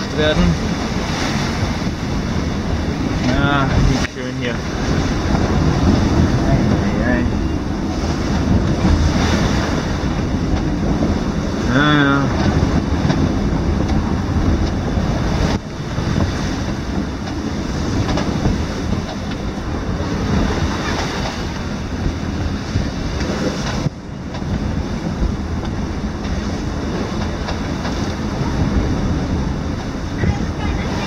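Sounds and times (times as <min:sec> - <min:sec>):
rushing sea: 0:00.0 - 0:31.0
wind rumble on microphone: 0:00.0 - 0:31.0.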